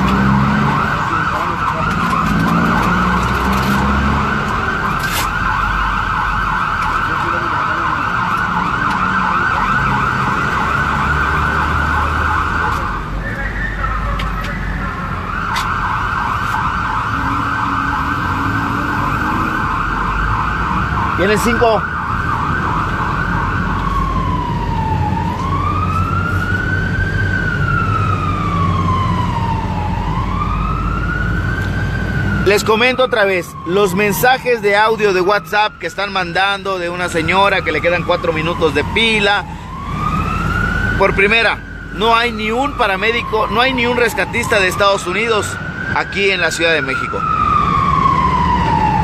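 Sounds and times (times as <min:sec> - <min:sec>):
ambulance siren yelping: 0:00.0 - 0:49.0
road traffic rumble: 0:00.0 - 0:49.0.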